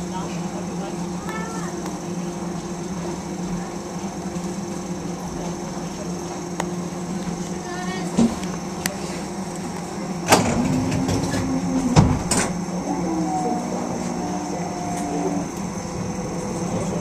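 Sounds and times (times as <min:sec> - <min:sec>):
train equipment humming: 0:00.0 - 0:17.0.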